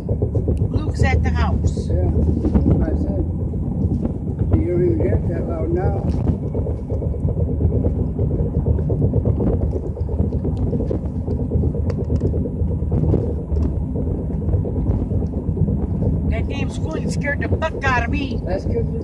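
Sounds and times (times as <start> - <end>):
road and engine noise: 0.0 - 19.0.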